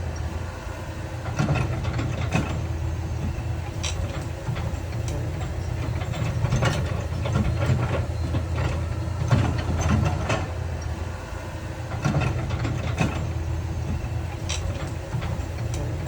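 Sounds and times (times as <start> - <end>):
diesel earthmoving machinery running: 0.0 - 16.0.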